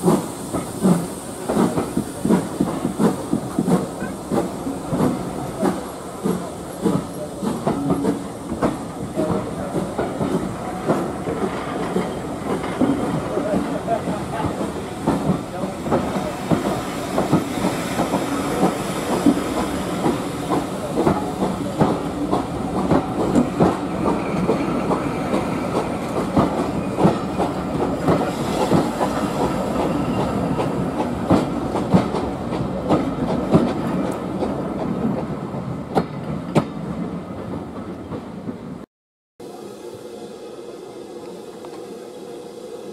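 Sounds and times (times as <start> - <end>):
wheels clattering on rails: 0.0 - 35.3
train rumble: 0.0 - 42.9.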